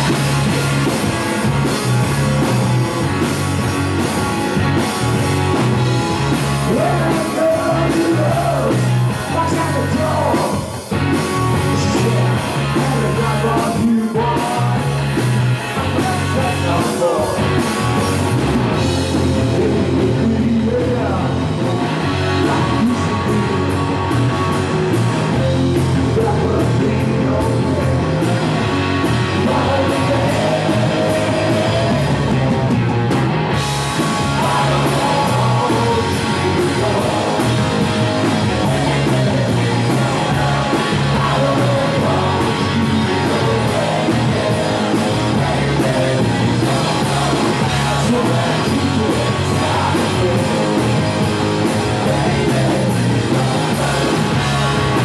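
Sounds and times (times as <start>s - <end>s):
bass guitar: 0.0s - 55.0s
drums: 0.0s - 55.0s
electric guitars: 0.0s - 55.0s
man singing: 6.6s - 18.2s, 19.0s - 23.8s, 25.4s - 32.8s, 34.0s - 55.0s.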